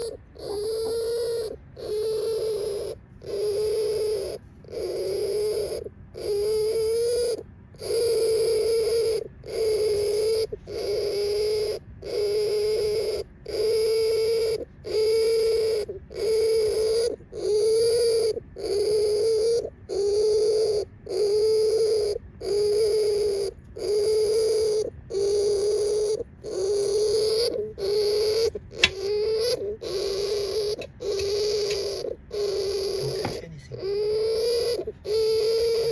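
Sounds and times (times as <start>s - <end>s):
hamster whining: 0.0s - 35.9s.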